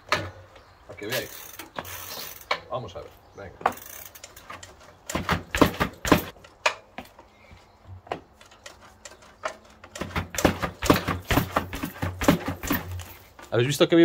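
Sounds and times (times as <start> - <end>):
bike suspension knocks and clunks: 0.0 - 2.8, 3.6 - 7.2, 7.8 - 13.6.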